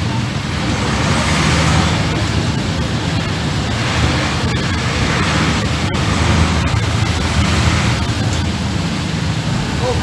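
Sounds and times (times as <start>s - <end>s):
bus engine rumble: 0.0s - 10.0s
road and wind noise: 0.0s - 10.0s.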